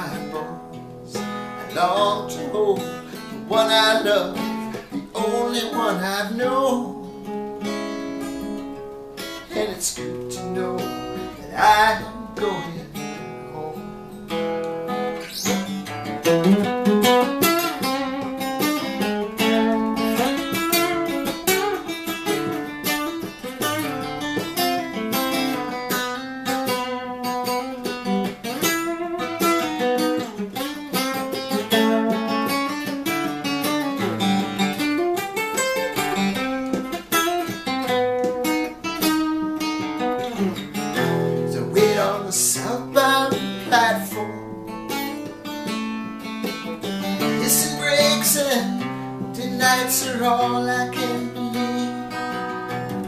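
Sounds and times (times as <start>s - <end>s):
acoustic guitar picking: 0.0s - 53.0s.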